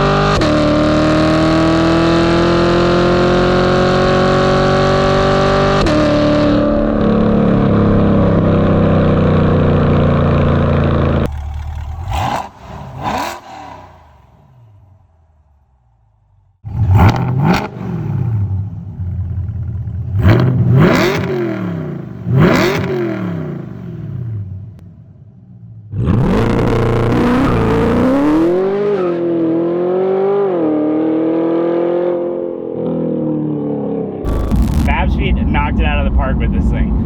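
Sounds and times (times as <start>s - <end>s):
sports car exhaust revving: 0.0s - 31.5s.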